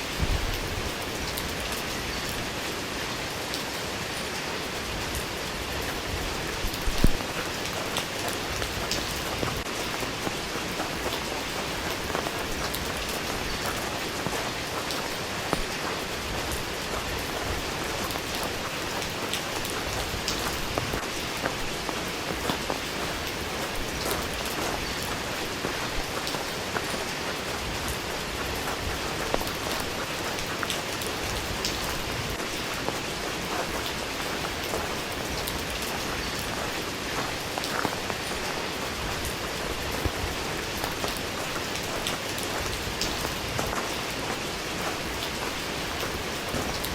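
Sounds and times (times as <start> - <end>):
rain ticking on hard surface: 0.0 - 46.9.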